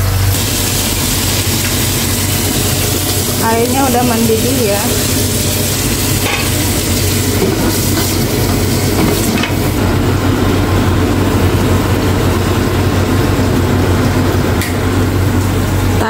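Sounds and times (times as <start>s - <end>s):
extractor fan running: 0.0s - 16.0s.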